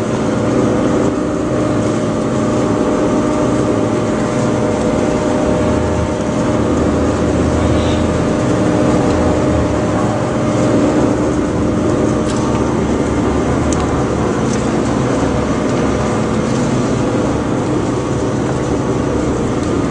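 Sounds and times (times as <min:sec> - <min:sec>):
mixer machine hum: 0:00.0 - 0:19.9.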